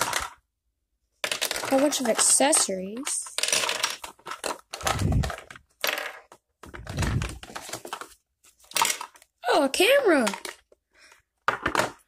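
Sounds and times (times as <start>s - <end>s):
plastic accessories clattering: 0.0s - 0.4s, 1.2s - 12.0s.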